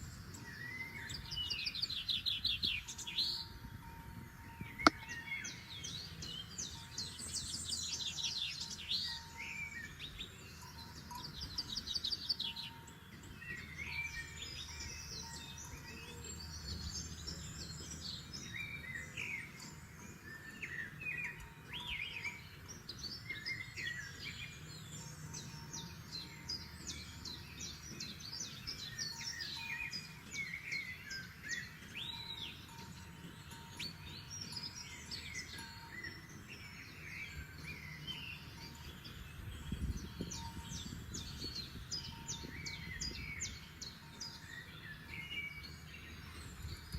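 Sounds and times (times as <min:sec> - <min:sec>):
songbirds singing and calling: 0:00.0 - 0:46.9.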